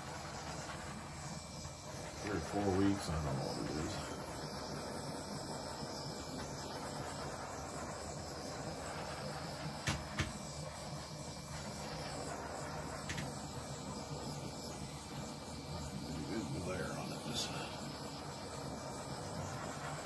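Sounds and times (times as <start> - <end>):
butane torch hissing: 0.0 - 20.0.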